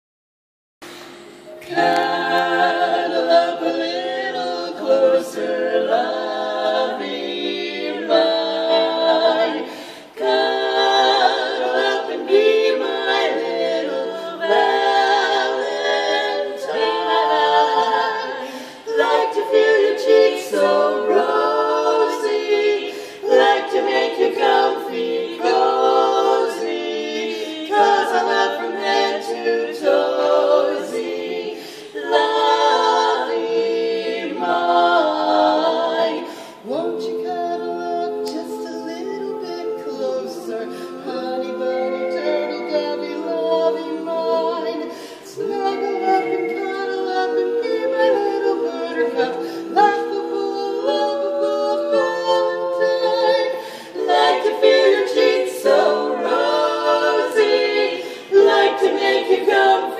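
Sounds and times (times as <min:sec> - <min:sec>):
women singing a cappella harmony: 0:00.8 - 0:59.9.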